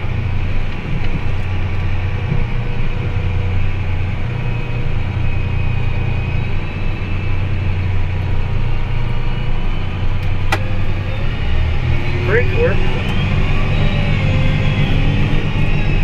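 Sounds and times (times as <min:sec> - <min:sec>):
faint steady whine: 0:00.0 - 0:16.0
tractor engine running: 0:00.0 - 0:16.0.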